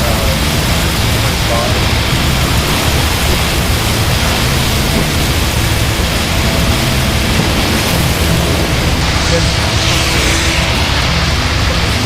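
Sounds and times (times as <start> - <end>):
gusting wind: 0.0 - 12.0
torrential rain: 0.0 - 12.0.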